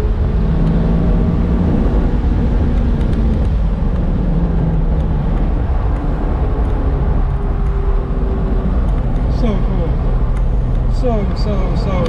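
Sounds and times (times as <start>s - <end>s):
car engine at high speed: 0.0s - 12.0s
road and wind rumble: 0.0s - 12.0s.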